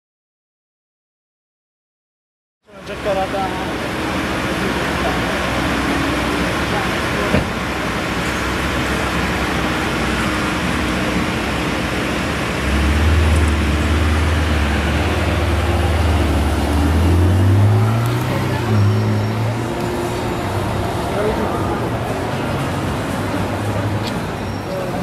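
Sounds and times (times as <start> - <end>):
street traffic noise: 2.6 - 25.0
sports car engine: 2.7 - 25.0.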